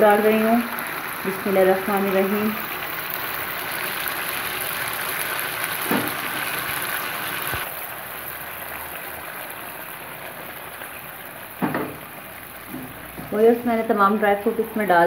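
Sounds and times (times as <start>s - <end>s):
curry bubbling and hissing: 0.0s - 14.9s.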